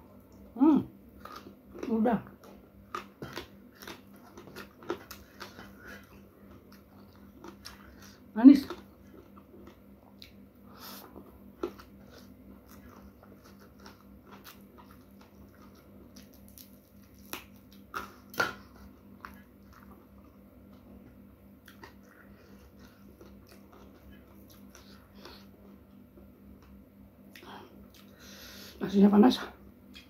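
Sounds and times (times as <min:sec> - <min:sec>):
person chewing food: 0:00.0 - 0:28.4.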